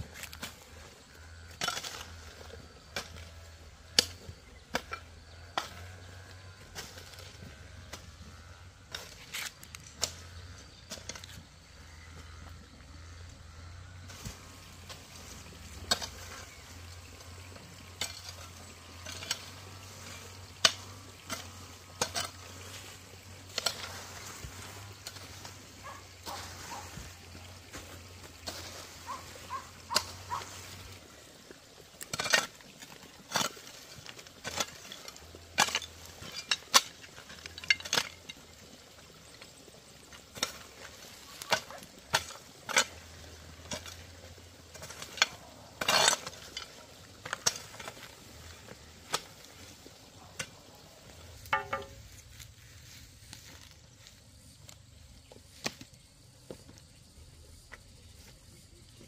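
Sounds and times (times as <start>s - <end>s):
hoe scraping stony soil: 0.0s - 59.0s.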